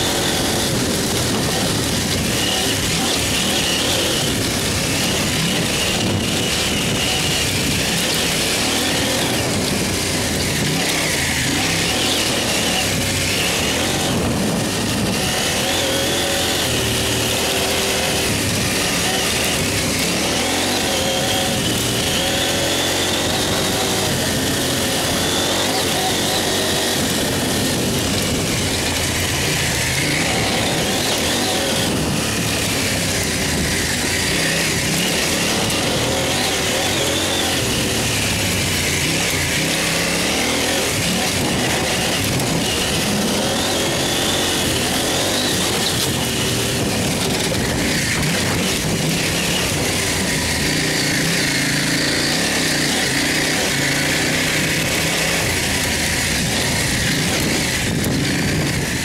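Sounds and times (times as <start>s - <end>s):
dirt bike engine revving: 0.0s - 59.0s
steady rush of noise: 0.0s - 59.0s.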